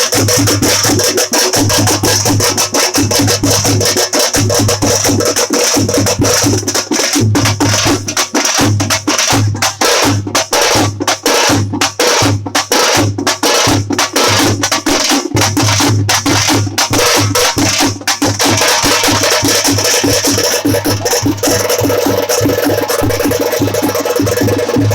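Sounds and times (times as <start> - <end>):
frame drums playing: 0.0 - 24.9.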